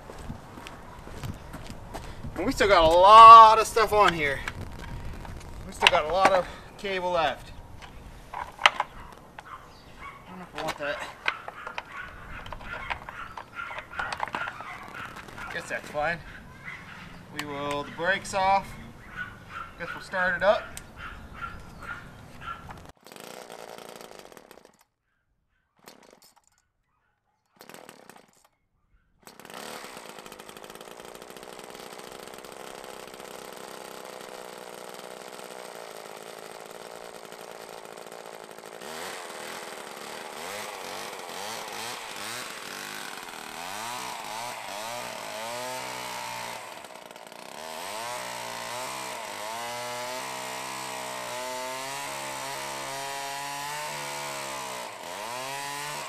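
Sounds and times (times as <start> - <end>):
chainsaw engine running: 0.0 - 16.2, 21.4 - 24.8, 27.6 - 28.4, 29.2 - 56.0.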